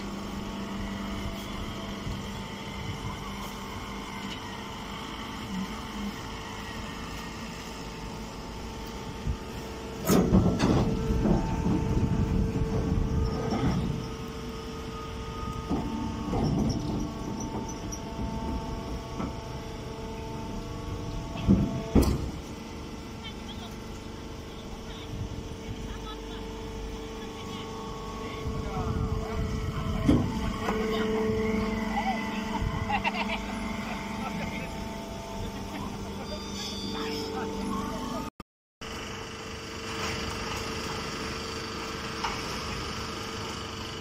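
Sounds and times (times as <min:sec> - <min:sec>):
machinery humming: 0:00.0 - 0:44.0.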